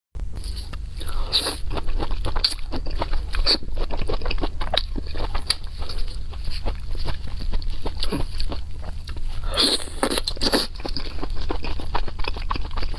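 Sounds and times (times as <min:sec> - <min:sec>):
biting and chewing crunchy food: 0:00.2 - 0:12.9
low steady hum: 0:00.2 - 0:12.9.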